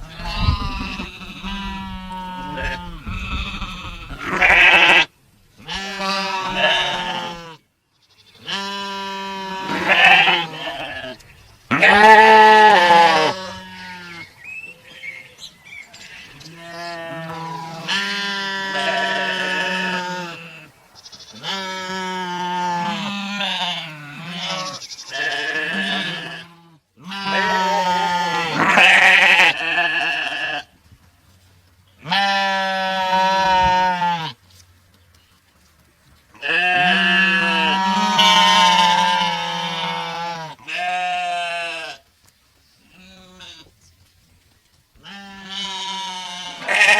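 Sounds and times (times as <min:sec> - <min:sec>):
sheep bleating: 0:00.0 - 0:14.3, 0:16.0 - 0:30.7, 0:32.0 - 0:34.4, 0:36.4 - 0:42.0, 0:42.9 - 0:43.7, 0:45.0 - 0:46.9.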